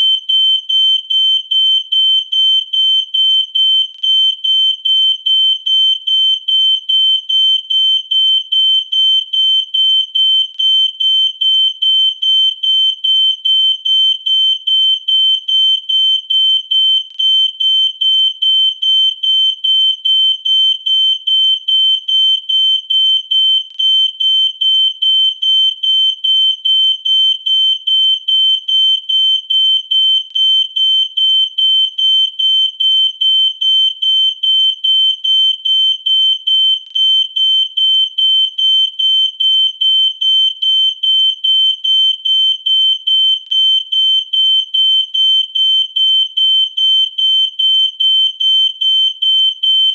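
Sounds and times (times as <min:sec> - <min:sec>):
smoke alarm beeping: 0:00.0 - 0:49.9.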